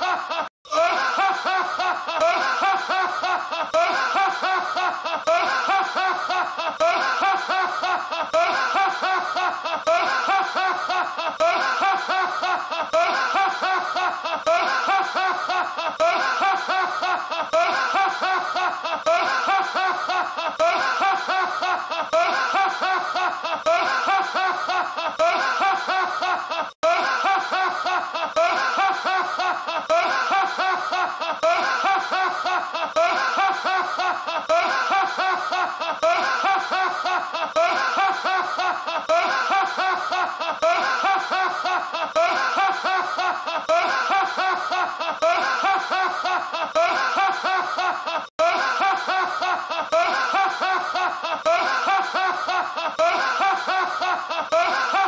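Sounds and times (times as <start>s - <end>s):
man laughing hard: 0.0s - 55.0s.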